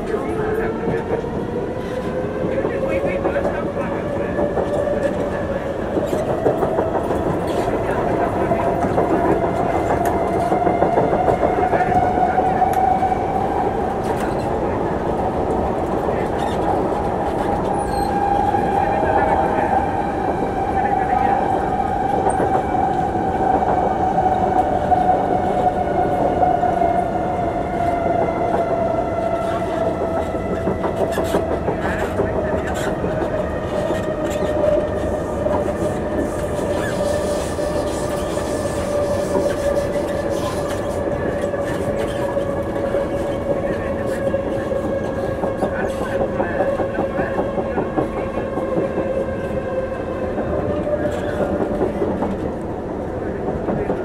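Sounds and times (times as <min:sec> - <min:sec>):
train steady whine: 0:00.0 - 0:54.0
train wheels rumbling on track: 0:00.0 - 0:54.0.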